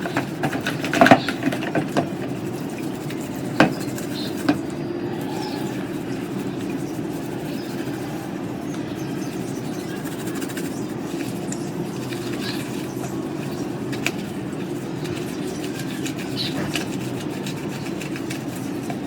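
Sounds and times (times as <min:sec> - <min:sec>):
steady mechanical rumble: 0:00.0 - 0:19.0.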